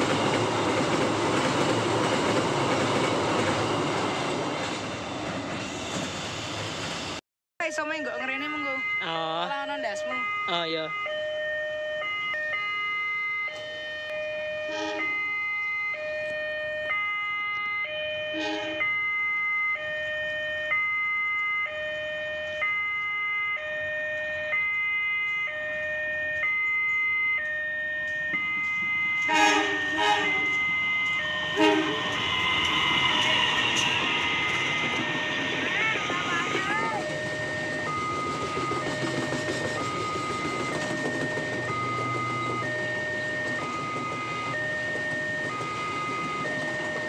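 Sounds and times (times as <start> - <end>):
two-tone electronic alarm: 7.6 - 47.0.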